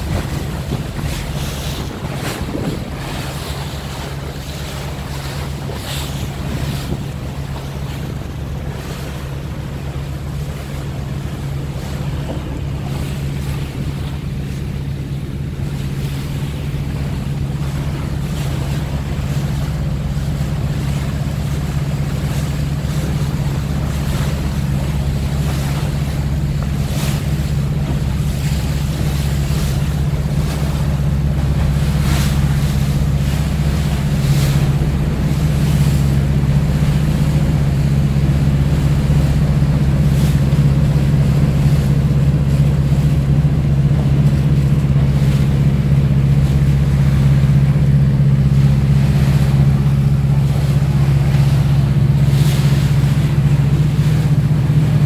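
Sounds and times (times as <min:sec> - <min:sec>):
boat engine droning: 0:00.0 - 0:55.0
water rushing past hull: 0:00.0 - 0:55.0
wind on microphone: 0:00.0 - 0:55.0.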